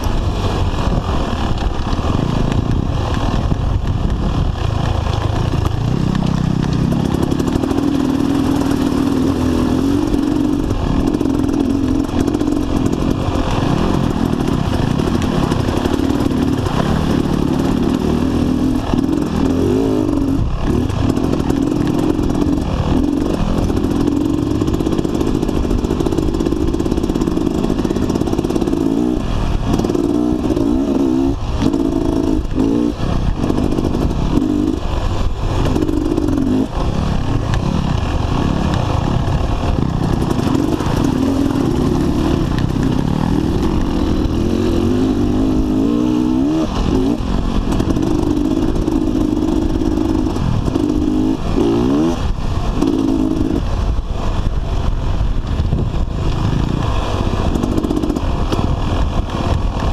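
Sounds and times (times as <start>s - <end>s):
dirt bike engine revving: 0.0s - 54.8s, 55.4s - 59.9s.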